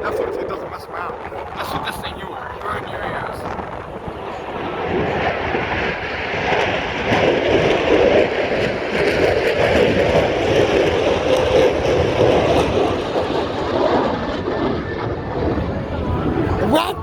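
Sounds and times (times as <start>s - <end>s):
fighter jet roar: 0.0s - 17.0s.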